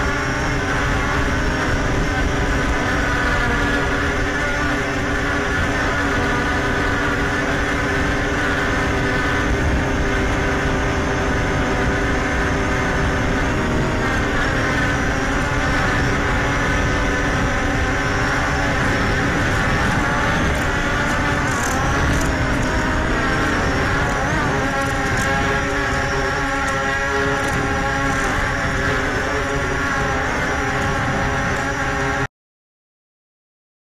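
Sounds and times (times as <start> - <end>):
quadcopter propellers whining: 0.0 - 32.3.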